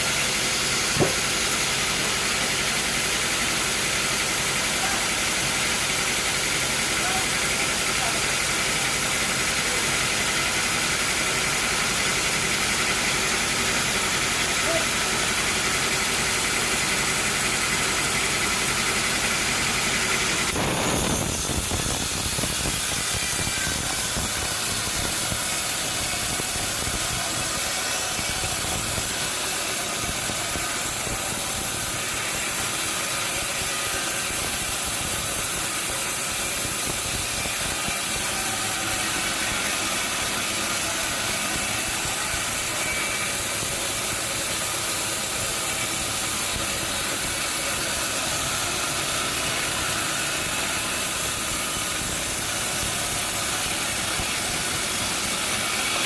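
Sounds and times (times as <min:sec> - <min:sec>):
sawmill engine hum: 0:00.0 - 0:56.0
steady machine hiss: 0:00.0 - 0:56.0.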